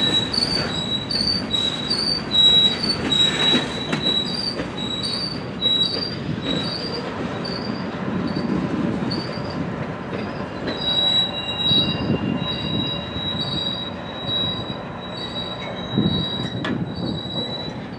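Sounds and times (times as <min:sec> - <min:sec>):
rumble of rolling train cars: 0:00.0 - 0:17.9
train wheels squealing on rails: 0:00.0 - 0:17.9.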